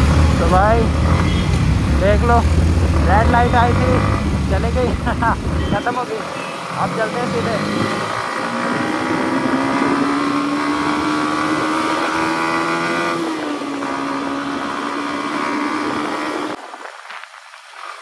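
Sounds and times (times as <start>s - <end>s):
motorcycle engine accelerating: 0.0s - 16.6s.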